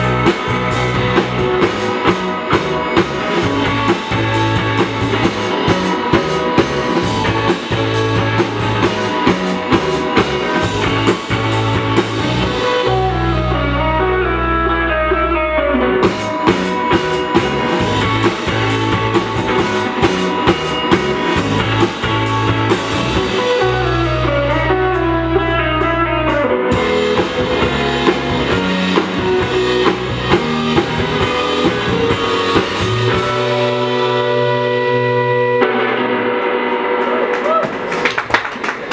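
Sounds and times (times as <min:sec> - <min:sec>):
drum kit with crashing cymbals: 0:00.0 - 0:13.5, 0:16.0 - 0:34.9
electric bass: 0:00.0 - 0:38.0
electric guitar: 0:00.0 - 0:38.9.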